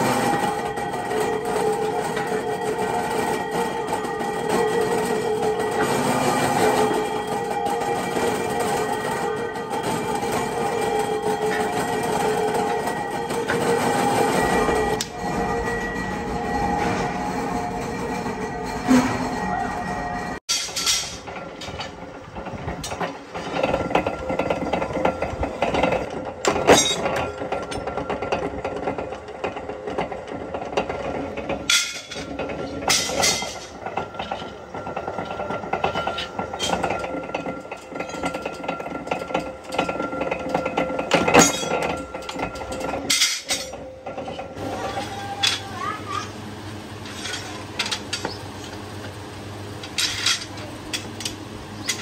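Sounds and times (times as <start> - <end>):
machine hum: 0.0 - 52.0
steel clanking and knocking: 0.0 - 52.0.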